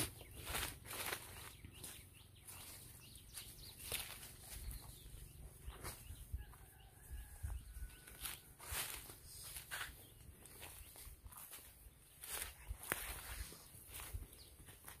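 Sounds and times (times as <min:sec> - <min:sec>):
vegetation rustling: 0:00.0 - 0:06.1, 0:08.0 - 0:15.0
footsteps crunching on dry leaves: 0:00.0 - 0:06.2, 0:06.9 - 0:15.0.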